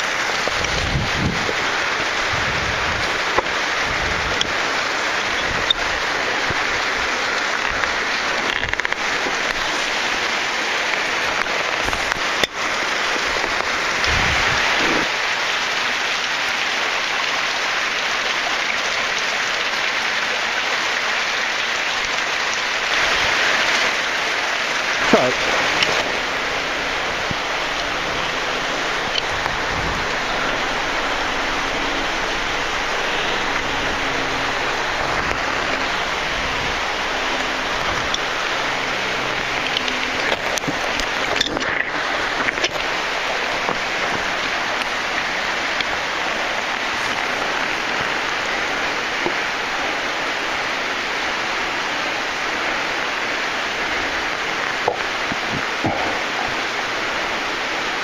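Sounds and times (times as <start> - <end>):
waterfall crashing onto rock: 0.0 - 51.6, 52.2 - 58.0.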